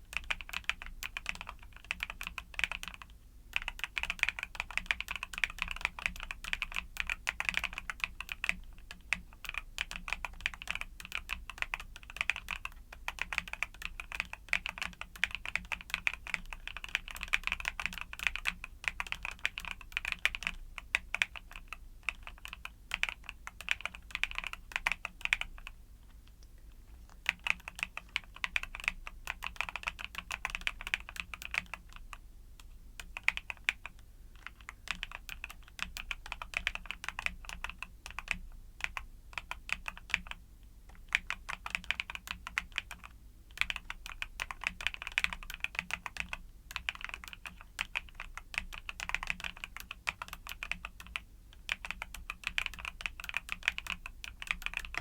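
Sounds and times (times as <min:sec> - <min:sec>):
mechanical keyboard typing: 0:00.1 - 0:25.8, 0:27.1 - 0:55.0.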